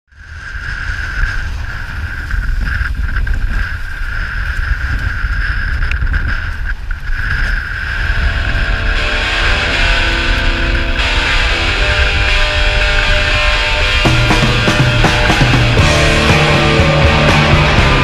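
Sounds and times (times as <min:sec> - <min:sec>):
high whine: 0:00.1 - 0:18.0
wind buffeting microphone: 0:00.1 - 0:18.0.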